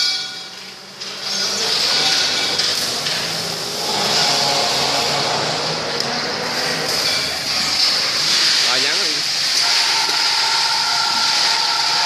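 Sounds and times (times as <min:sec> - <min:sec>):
pipe-cutting saw machine running: 0:01.4 - 0:12.0.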